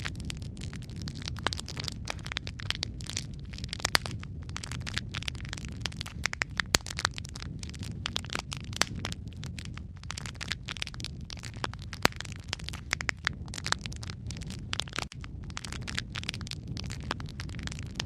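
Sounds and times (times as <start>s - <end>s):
low rumble of flames: 0.0s - 18.0s
wood logs crackling and popping: 0.0s - 18.0s.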